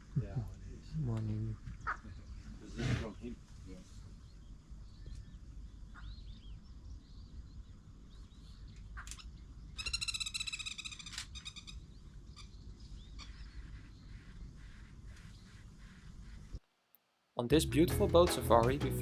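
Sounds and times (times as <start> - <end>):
wild birds chirping: 0.0 - 16.6.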